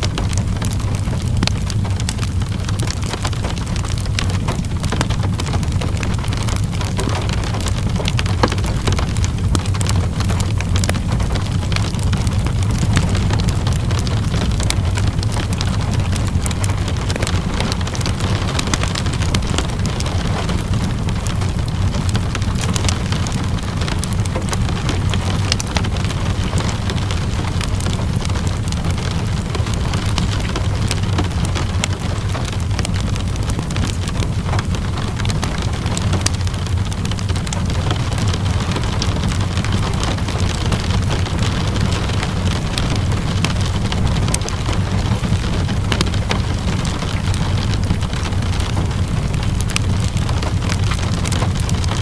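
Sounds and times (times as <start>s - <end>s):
low rumble: 0.0s - 52.0s
steady rainfall: 0.0s - 52.0s
wood fire crackling: 0.0s - 52.0s.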